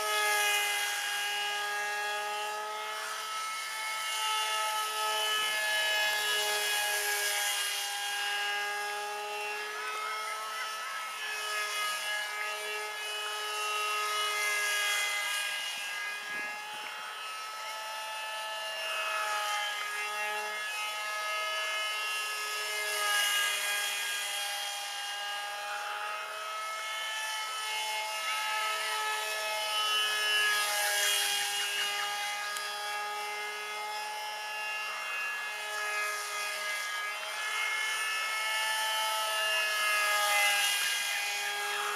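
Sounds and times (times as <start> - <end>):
electric motor whine: 0.0 - 41.9.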